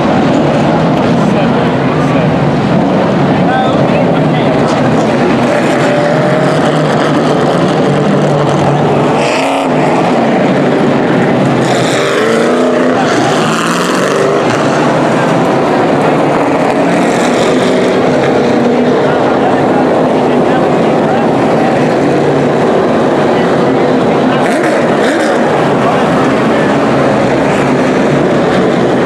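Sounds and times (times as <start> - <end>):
race car engines passing by: 0.0 - 29.0.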